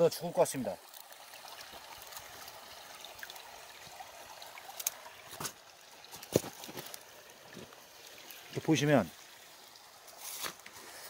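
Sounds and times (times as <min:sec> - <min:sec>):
stream trickling over stones: 0:00.0 - 0:11.0.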